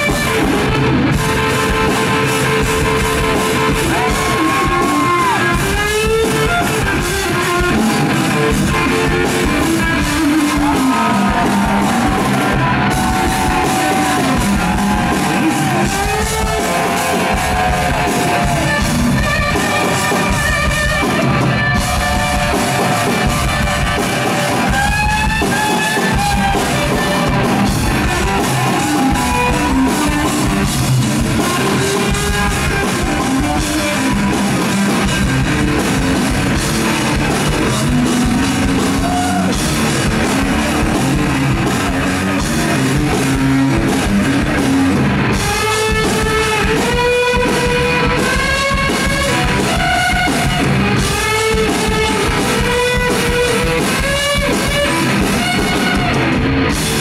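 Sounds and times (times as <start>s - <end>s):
drum kit with cymbals: 0.0s - 57.0s
electric guitar: 0.0s - 57.0s.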